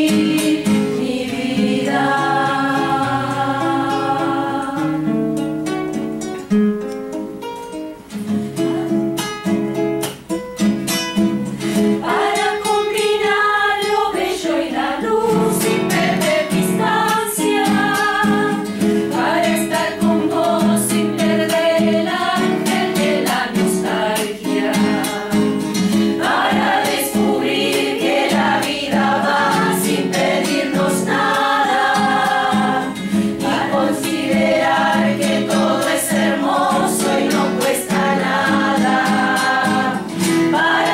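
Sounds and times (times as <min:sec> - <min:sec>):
mixed choir singing a folk song: 0:00.0 - 0:05.4, 0:11.7 - 0:40.9
acoustic guitar: 0:00.0 - 0:40.9.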